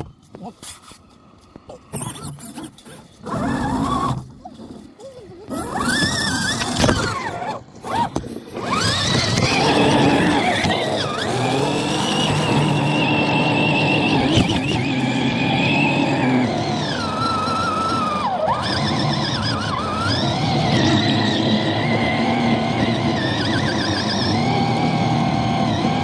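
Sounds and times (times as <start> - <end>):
toy car motor whining: 0.0 - 26.0.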